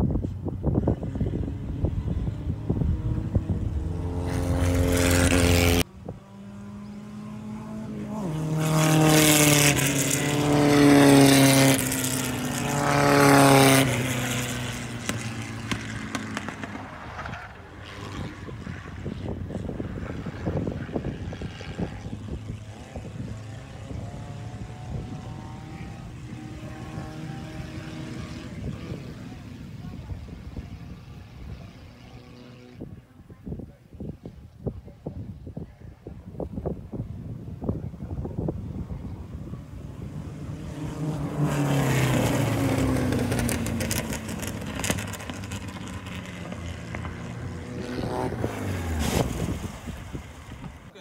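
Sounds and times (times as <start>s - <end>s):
distant race car engines droning: 0.0s - 51.0s.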